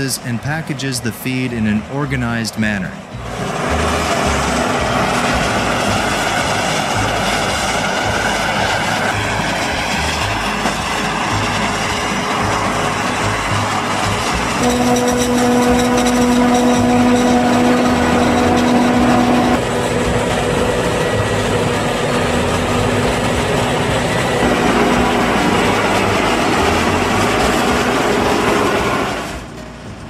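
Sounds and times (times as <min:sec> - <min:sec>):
harvester mechanical drone: 0:00.0 - 0:30.0.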